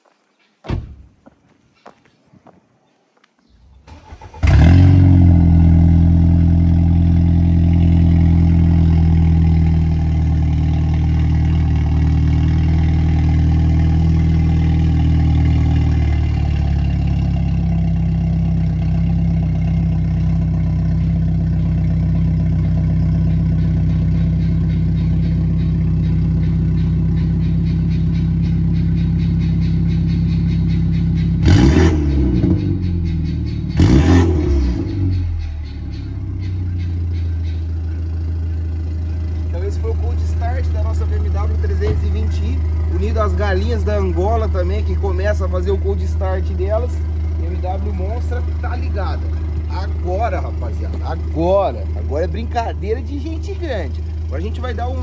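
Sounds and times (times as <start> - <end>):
car engine idling loudly and revving: 4.4 - 55.0.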